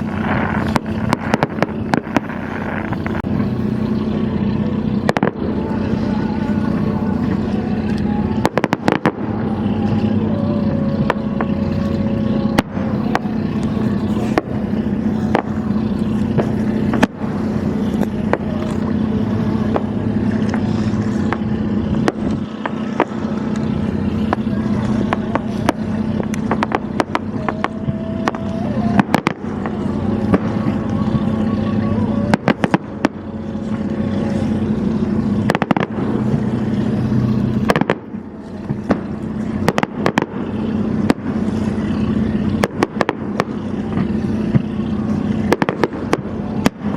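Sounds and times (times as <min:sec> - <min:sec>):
fireworks bangs and crackles: 0:00.0 - 0:46.9
motorboat engine drone: 0:00.0 - 0:46.9.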